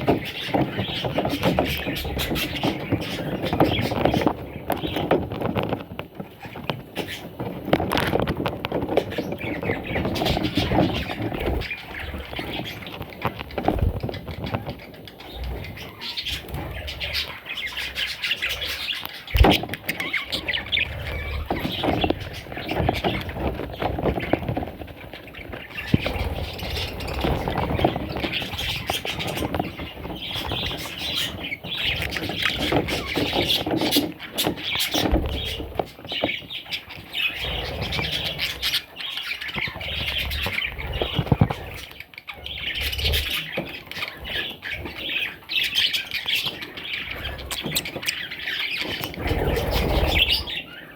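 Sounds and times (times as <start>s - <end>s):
budgerigars squawking and chirping: 0.0s - 5.5s, 8.8s - 50.9s.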